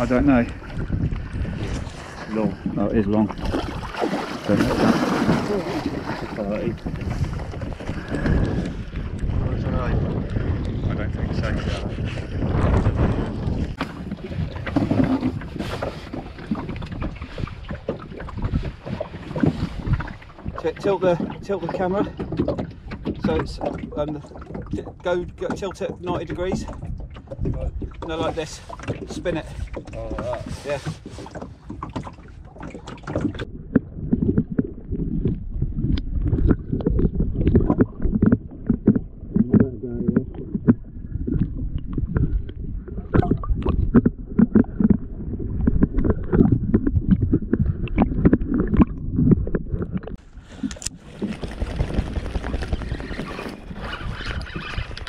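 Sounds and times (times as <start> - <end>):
knocks and clatter in wooden boat: 0.0 - 55.0
muffled underwater sloshing: 0.0 - 55.0
water noise: 0.0 - 55.0
wind buffeting microphone: 0.0 - 55.0.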